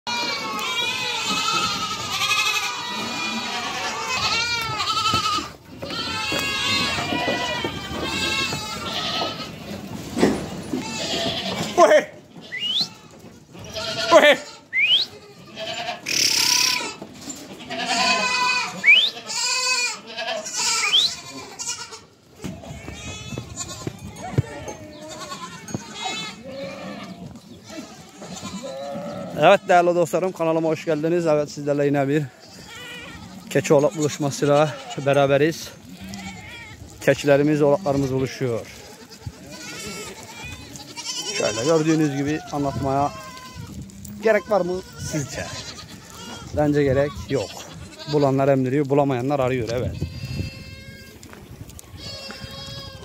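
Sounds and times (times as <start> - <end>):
goats bleating: 0.1 - 53.0.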